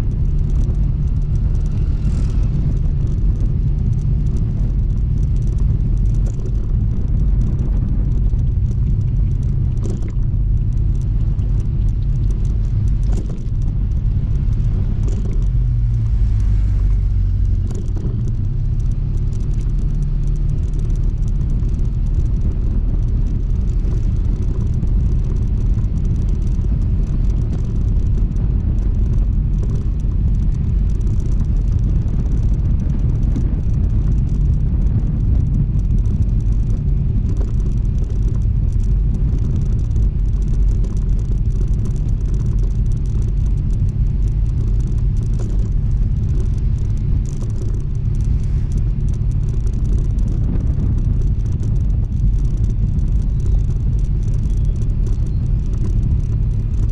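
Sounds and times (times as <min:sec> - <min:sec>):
heavy low rumble: 0:00.0 - 0:56.9
scooter engine running: 0:00.0 - 0:56.9.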